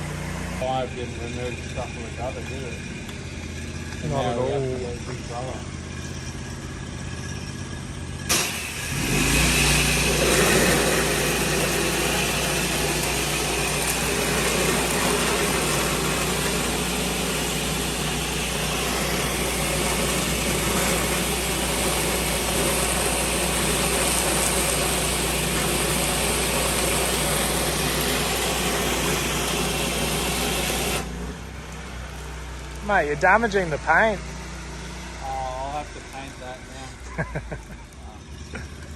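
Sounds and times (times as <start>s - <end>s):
water jet hissing: 0.0s - 4.0s, 8.3s - 37.2s
pressure washer engine hum: 0.0s - 38.9s.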